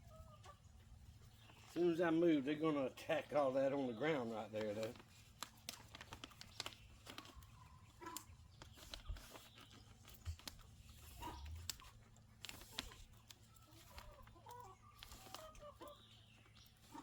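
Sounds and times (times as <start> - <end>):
chickens clucking quietly: 0.0 - 17.0
beaks pecking: 1.2 - 17.0.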